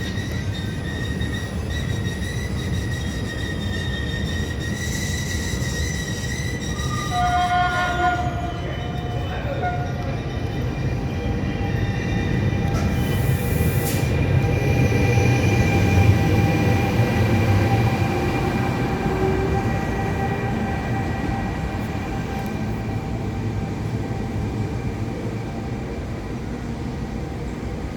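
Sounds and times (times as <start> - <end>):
train rumbling: 0.0 - 27.9.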